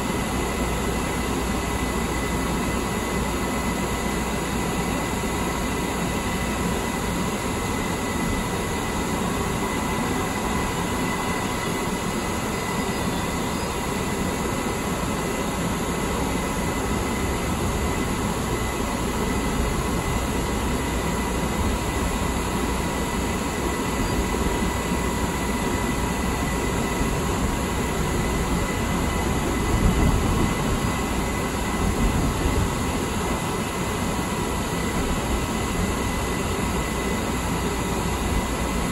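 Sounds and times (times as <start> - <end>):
faint steady whine: 0.0 - 38.9
wheels rumbling on rail: 0.0 - 38.9.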